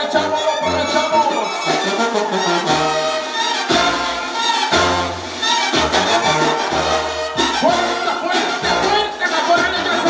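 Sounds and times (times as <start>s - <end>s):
brass band music: 0.0s - 10.0s.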